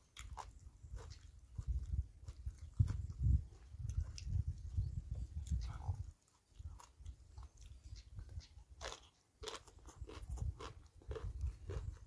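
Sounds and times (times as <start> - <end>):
person chewing crunchy salad: 0.0 - 12.0.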